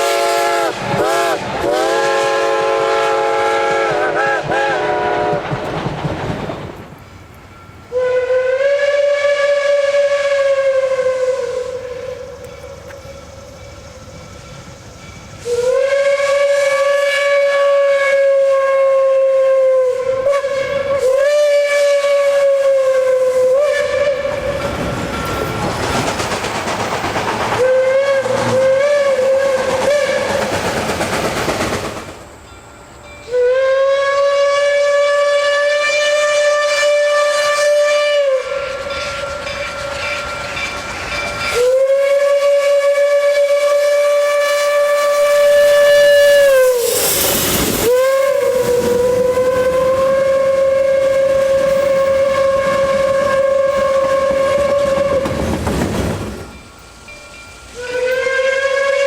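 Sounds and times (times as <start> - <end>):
steam locomotive whistle blasts: 0.0 - 5.8, 7.9 - 25.5, 27.6 - 30.5, 33.0 - 55.6, 56.6 - 59.0
loud hissing steam: 0.0 - 59.0.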